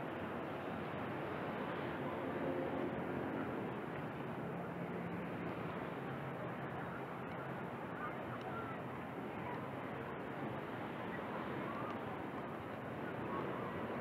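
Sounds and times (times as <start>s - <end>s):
sea rushing: 0.0s - 14.0s
wind: 0.0s - 14.0s.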